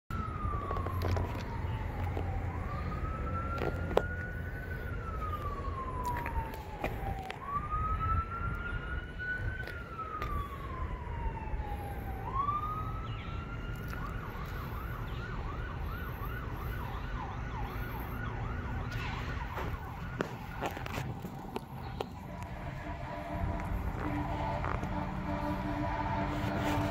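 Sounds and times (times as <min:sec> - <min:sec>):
emergency siren wailing: 0:00.1 - 0:26.9
siren fast yelp: 0:00.2 - 0:26.9.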